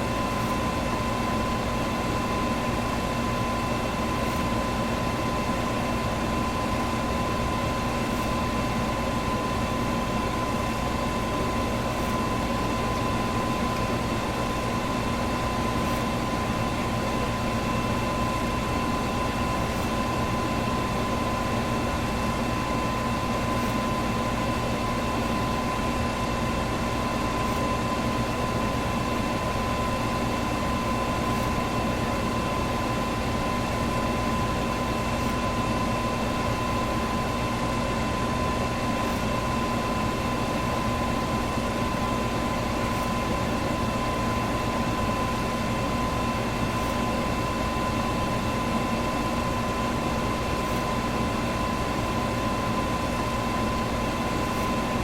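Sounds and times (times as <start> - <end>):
electric fan running: 0.0 - 55.0.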